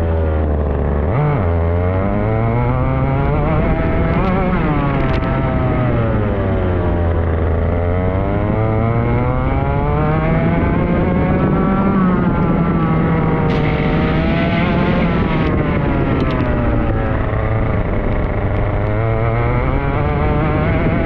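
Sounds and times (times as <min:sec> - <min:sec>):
kart engine: 0:00.0 - 0:21.0.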